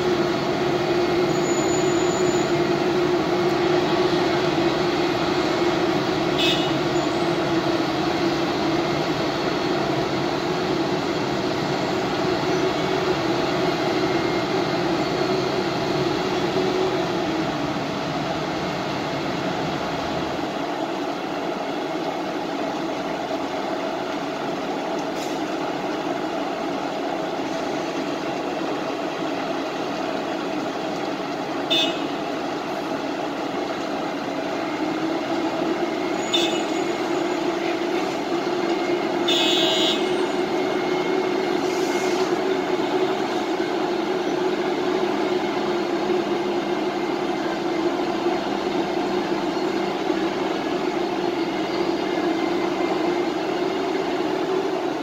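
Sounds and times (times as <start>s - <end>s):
milling machine drone: 0.0s - 21.2s, 24.2s - 55.0s.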